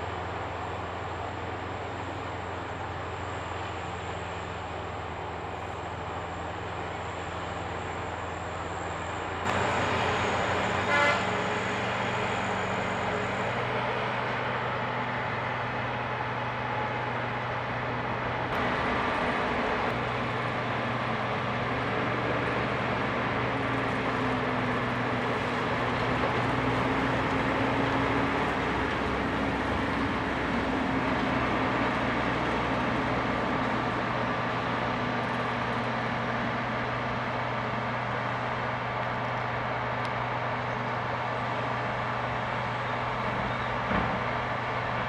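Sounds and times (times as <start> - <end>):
diesel machinery engine hum: 0.0 - 45.0.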